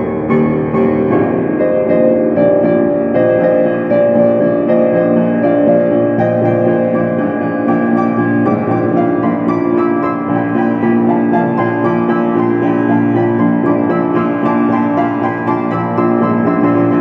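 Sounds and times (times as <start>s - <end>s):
slow ambient keyboard music: 0.0s - 17.0s.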